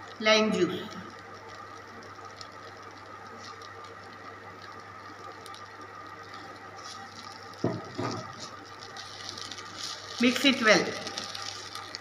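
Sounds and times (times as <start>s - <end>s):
low steady hum: 0.0s - 12.0s
spatula ticking and scraping: 1.1s - 12.0s.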